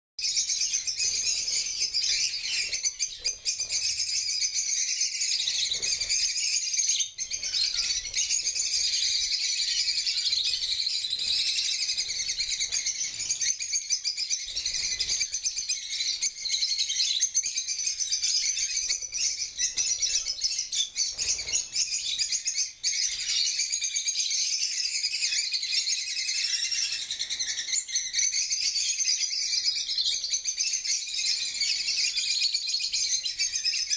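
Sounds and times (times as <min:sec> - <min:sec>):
parrots chirping and chattering: 0:00.2 - 0:33.9.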